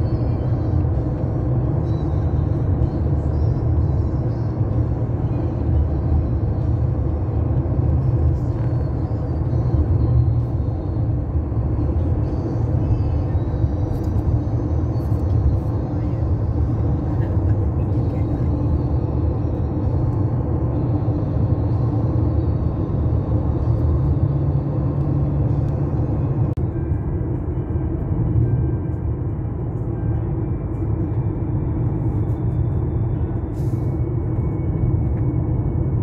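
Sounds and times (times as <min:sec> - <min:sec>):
car cabin road and engine rumble: 0:00.0 - 0:36.0.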